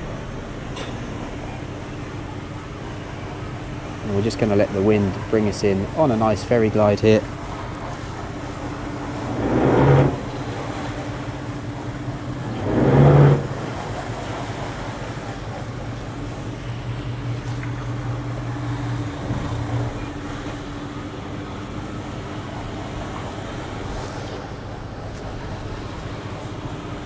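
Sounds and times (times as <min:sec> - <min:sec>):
boat engines humming: 0:00.0 - 0:27.0.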